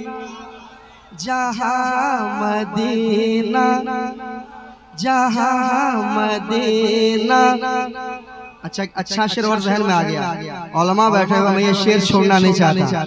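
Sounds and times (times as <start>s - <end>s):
man singing: 1.2s - 4.4s, 5.0s - 12.8s.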